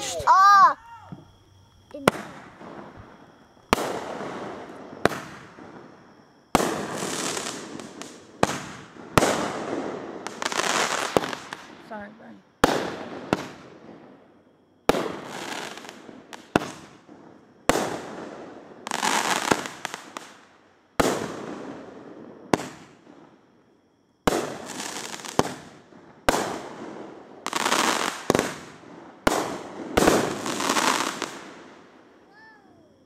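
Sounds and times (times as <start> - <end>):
fireworks bangs: 0.0 - 23.4, 24.2 - 32.6
hissing crackling firework tails: 0.0 - 33.0.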